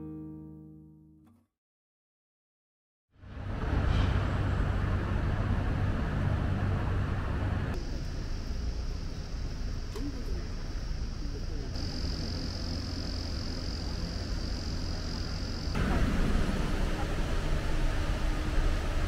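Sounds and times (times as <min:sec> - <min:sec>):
steady low rumble: 0:03.2 - 0:19.0.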